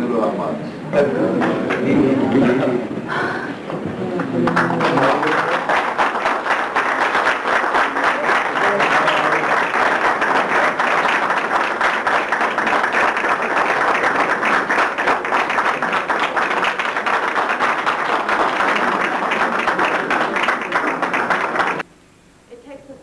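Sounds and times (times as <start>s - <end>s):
people applauding: 1.2s - 2.6s, 4.0s - 21.8s.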